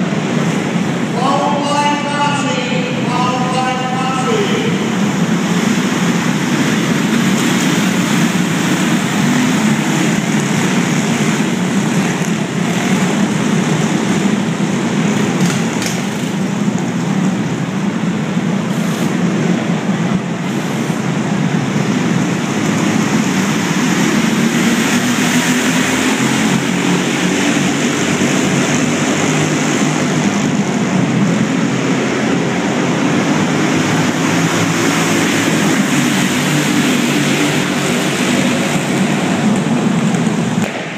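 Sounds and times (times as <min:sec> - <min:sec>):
go-kart engines droning: 0:00.0 - 0:40.9.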